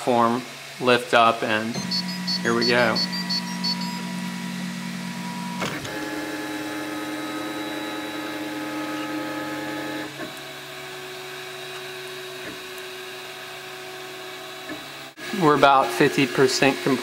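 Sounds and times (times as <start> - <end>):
stepper motors whining: 1.6 - 17.0.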